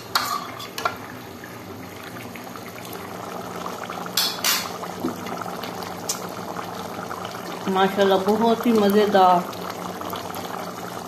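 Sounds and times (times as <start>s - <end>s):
curry bubbling at a boil: 0.0s - 11.0s.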